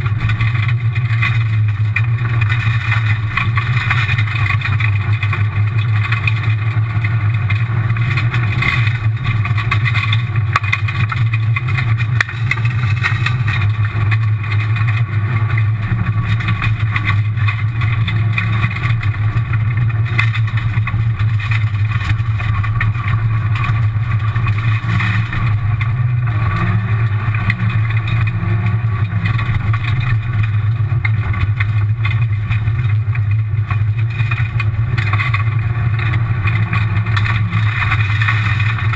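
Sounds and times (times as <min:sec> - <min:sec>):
car engine running hard: 0:00.0 - 0:38.9
gravel and tyre road noise: 0:00.0 - 0:38.9.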